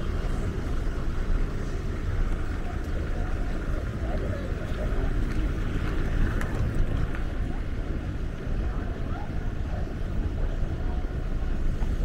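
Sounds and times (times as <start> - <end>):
traffic rumble: 0.0 - 12.0
wind buffeting microphone: 0.0 - 12.0.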